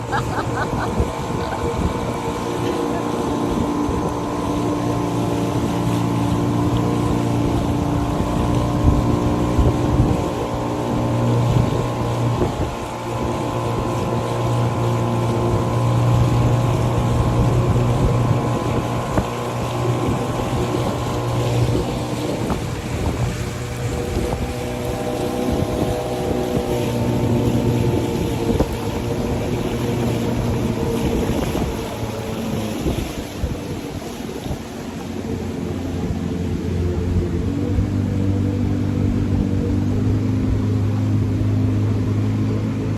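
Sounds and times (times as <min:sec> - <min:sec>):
motorboat engine running: 0:00.0 - 0:42.9
wind buffeting microphone: 0:00.0 - 0:42.9.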